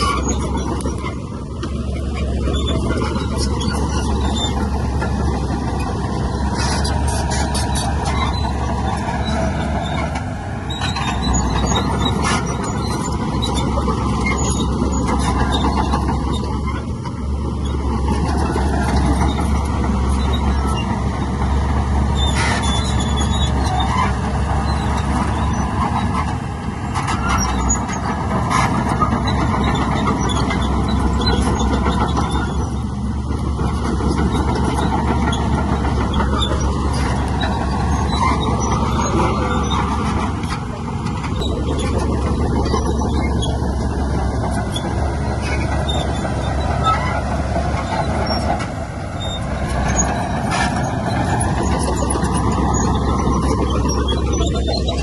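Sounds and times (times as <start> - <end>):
heavy diesel machinery running: 0.0 - 55.0
metallic squeals and clanks: 0.0 - 55.0.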